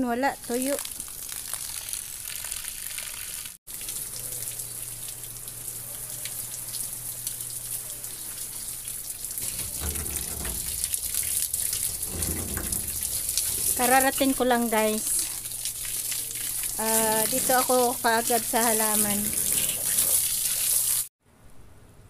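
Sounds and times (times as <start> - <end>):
garden hose spraying water: 0.4 - 21.1.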